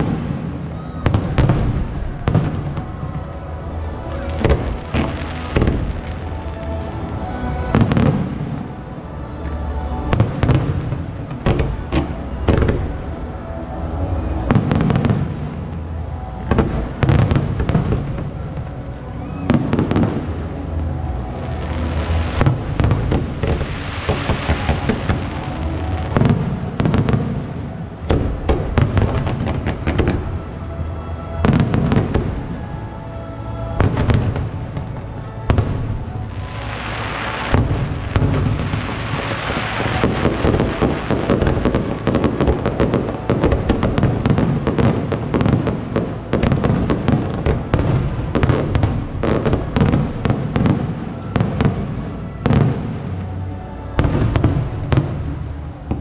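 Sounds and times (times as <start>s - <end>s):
fireworks bursting and cracking: 0.0s - 56.0s
fireworks hissing crackle: 0.0s - 56.0s
music playing: 0.0s - 56.0s.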